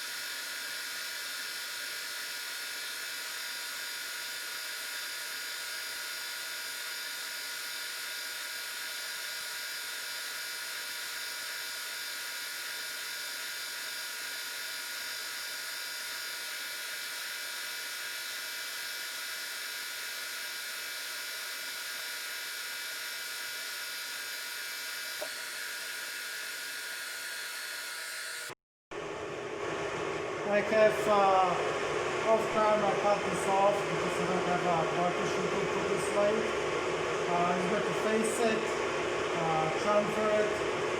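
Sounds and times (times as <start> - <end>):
metal lathe whining: 0.0 - 28.6, 29.6 - 40.9.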